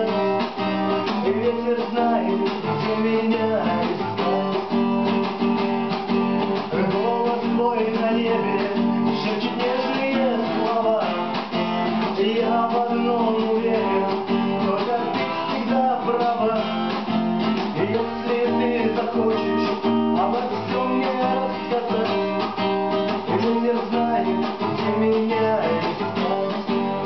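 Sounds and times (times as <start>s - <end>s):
acoustic guitar strumming: 0.0s - 27.0s
guitar melody line: 0.0s - 27.0s.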